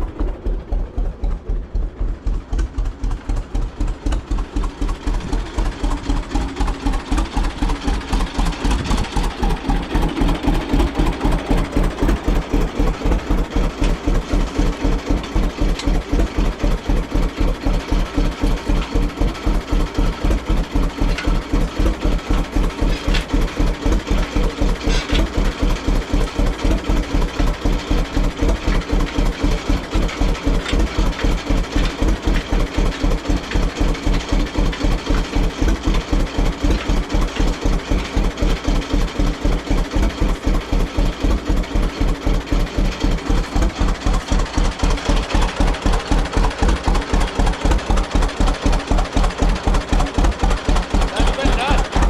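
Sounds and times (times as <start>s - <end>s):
tractor engine idling: 0.0s - 52.0s.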